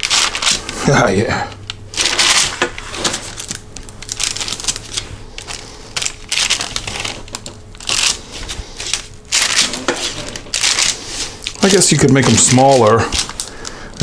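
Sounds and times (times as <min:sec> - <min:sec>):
parchment paper rustling: 0:00.0 - 0:14.0.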